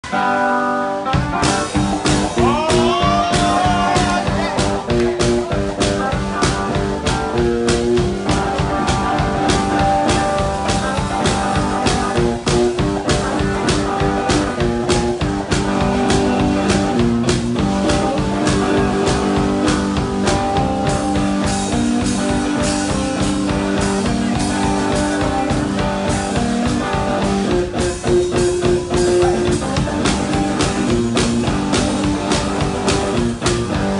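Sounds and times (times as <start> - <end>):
electric guitar: 0.0 - 33.9.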